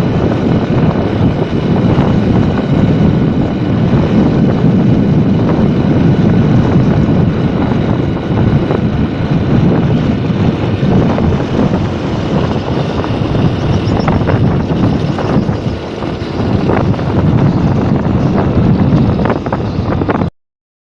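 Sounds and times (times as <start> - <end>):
motorcycle engine rumble: 0.0 - 20.3
wind rushing over microphone: 0.0 - 20.3.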